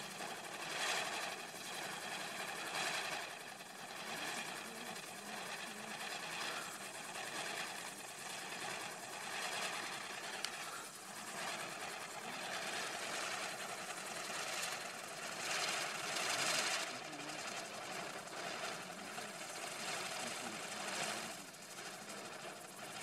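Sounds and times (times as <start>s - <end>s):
firework fountain hissing and crackling: 0.0s - 23.0s.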